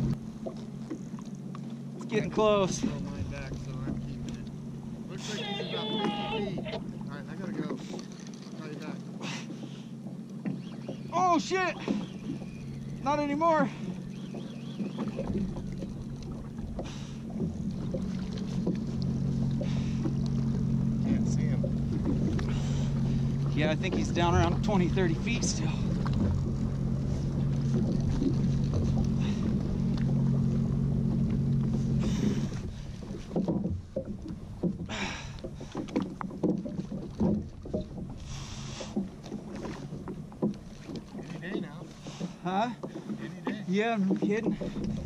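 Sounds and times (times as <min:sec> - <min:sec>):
jet ski engine idling: 0:00.0 - 0:45.0
water slapping against hull: 0:00.0 - 0:45.0.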